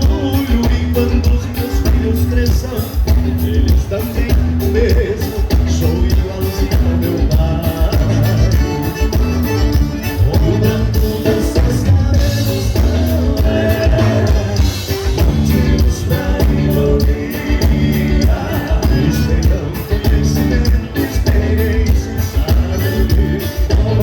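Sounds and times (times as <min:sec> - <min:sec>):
dance band playing live: 0:00.0 - 0:24.0
fast drum beat: 0:00.0 - 0:24.0.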